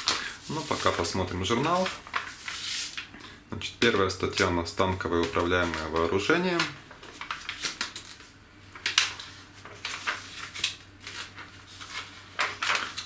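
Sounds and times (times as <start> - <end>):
magazine pages rustling: 0.0 - 13.0.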